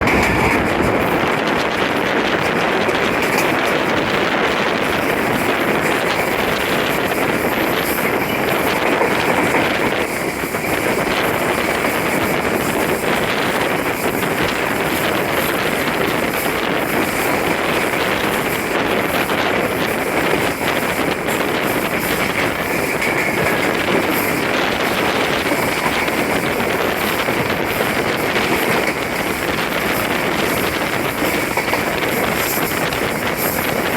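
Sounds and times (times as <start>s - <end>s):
passenger train running: 0.0s - 33.9s
wind buffeting microphone: 0.0s - 33.9s.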